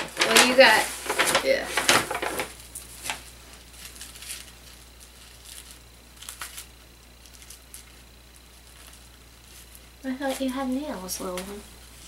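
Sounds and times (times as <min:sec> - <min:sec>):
gift wrapping crinkling: 0:00.0 - 0:12.0.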